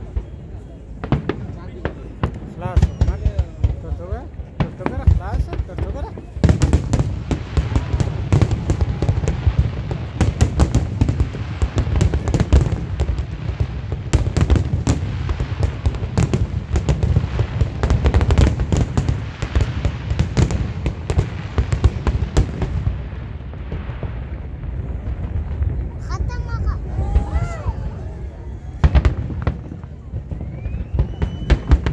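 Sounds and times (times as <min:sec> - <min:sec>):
fireworks booms: 0:00.0 - 0:31.9
fireworks crackling bursts: 0:00.0 - 0:31.9.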